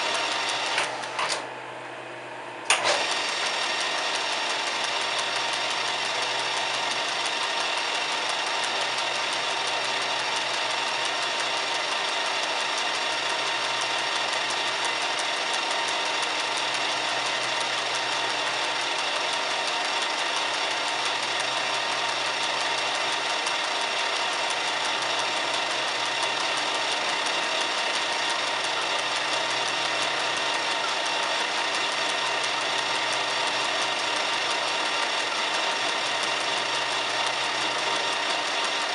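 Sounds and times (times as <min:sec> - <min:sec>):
metal lathe running: 0:00.0 - 0:01.5, 0:02.7 - 0:38.9.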